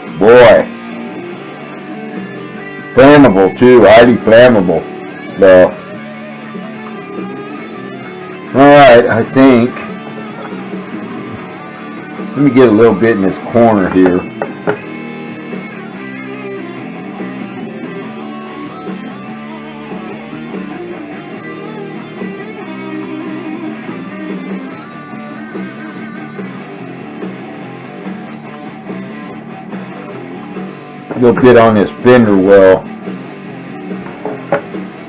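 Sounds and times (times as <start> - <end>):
background guitar music: 0.0 - 35.0.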